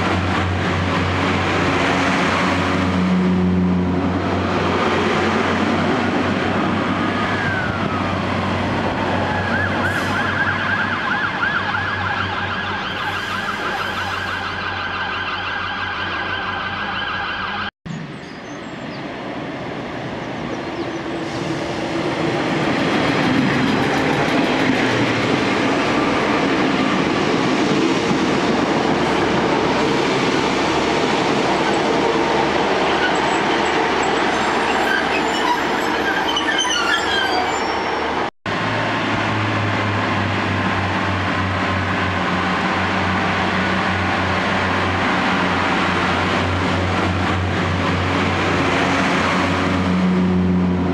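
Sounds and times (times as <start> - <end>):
diesel train rumbling: 0.0 - 10.8, 17.9 - 50.9
diesel railbus droning: 0.0 - 50.9.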